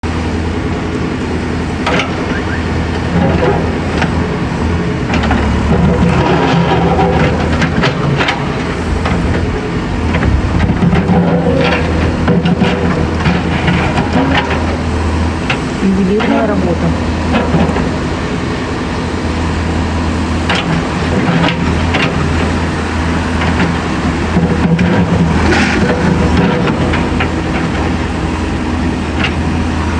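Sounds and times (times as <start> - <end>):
heavy machinery engine running: 0.0 - 29.9.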